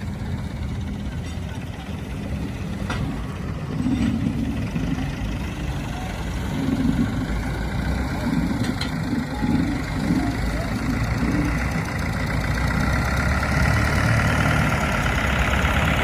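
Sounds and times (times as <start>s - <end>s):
heavy vehicle engine idling: 0.0s - 16.0s.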